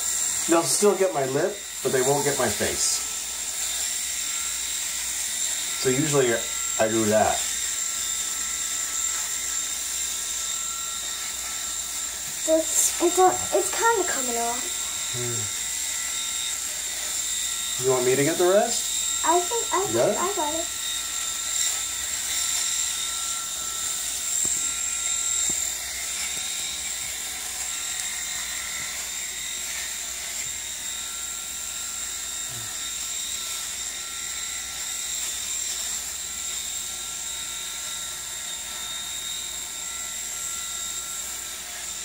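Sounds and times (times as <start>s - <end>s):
electric shaver cutting beard hair: 0.0s - 42.0s.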